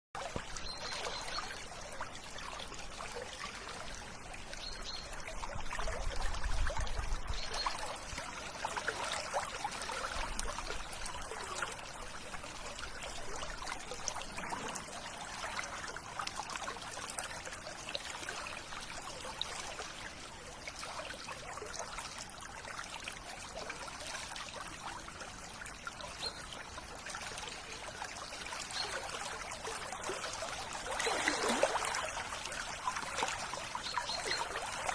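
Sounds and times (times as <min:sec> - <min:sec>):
river water babbling: 0:00.2 - 0:34.9.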